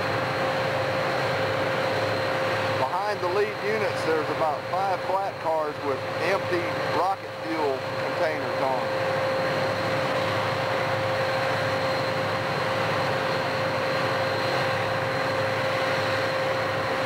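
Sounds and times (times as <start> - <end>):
constant whine: 0.0 - 17.0
diesel locomotive engines running: 0.0 - 17.0.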